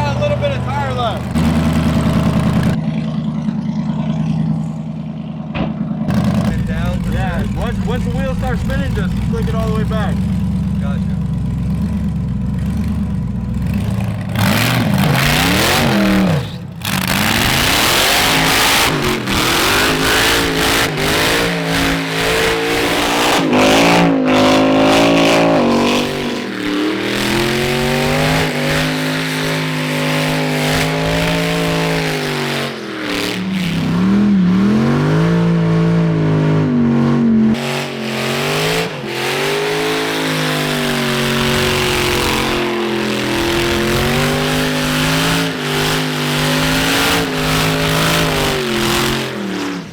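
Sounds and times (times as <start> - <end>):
car engine revving hard: 0.0 - 3.8, 4.9 - 49.9
tires spinning: 0.0 - 49.9.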